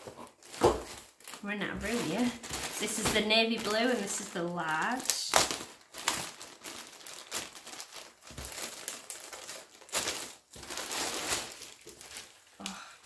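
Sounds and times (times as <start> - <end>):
packaging crinkling: 0.0 - 12.7.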